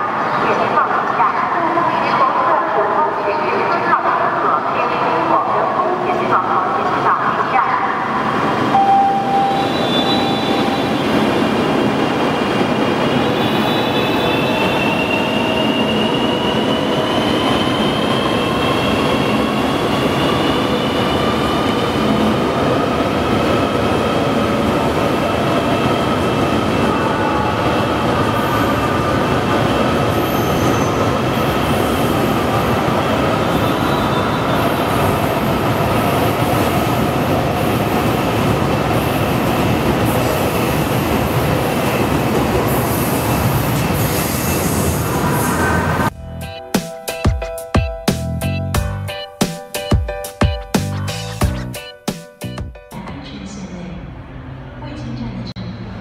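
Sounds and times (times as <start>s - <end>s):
train running noise rush: 0.0s - 56.0s.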